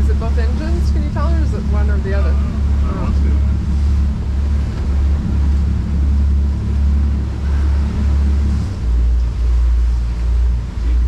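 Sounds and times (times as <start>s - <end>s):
rough sea water: 0.0s - 11.0s
wind buffeting microphone: 0.0s - 11.0s.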